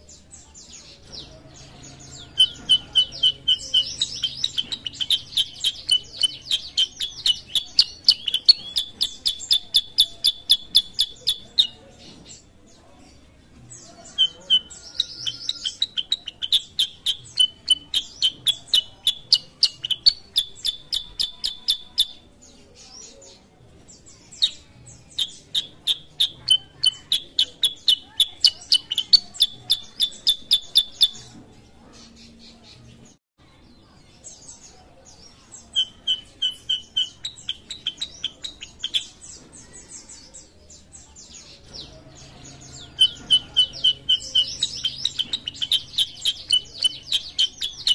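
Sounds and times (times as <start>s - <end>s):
bird singing rapid high chirps: 0.0s - 12.5s, 14.0s - 31.4s, 34.3s - 47.9s.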